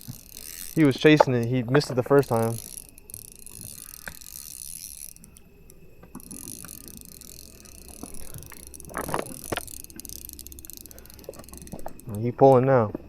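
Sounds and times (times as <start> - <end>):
fishing reel ticking whir: 0.0 - 13.0.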